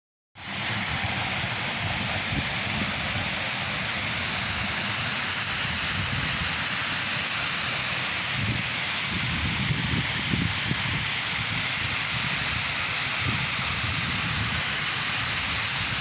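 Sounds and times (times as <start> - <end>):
waterfall rushing: 0.4 - 16.0.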